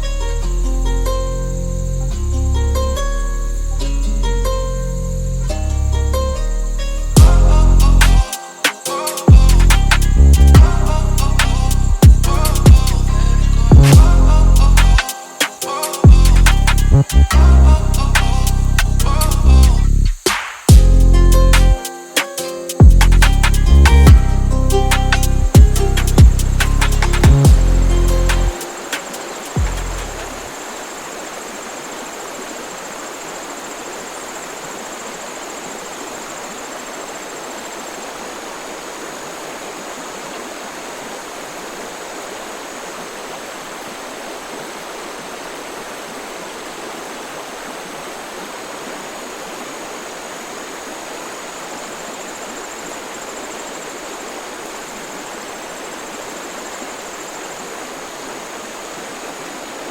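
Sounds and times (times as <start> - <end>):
running water rushing: 0.0 - 59.9.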